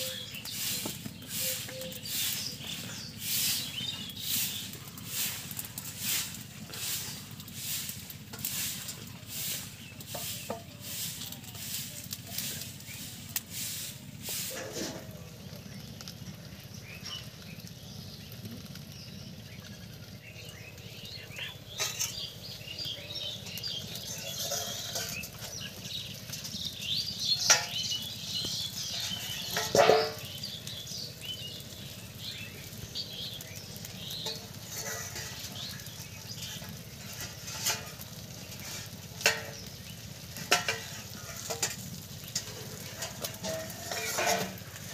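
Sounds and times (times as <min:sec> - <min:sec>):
food sizzling and crackling: 0:00.0 - 0:44.9.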